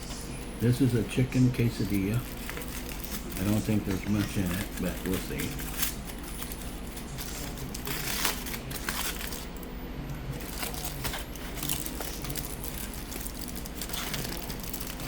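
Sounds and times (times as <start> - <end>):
food wrapping crinkling: 0.3 - 15.0.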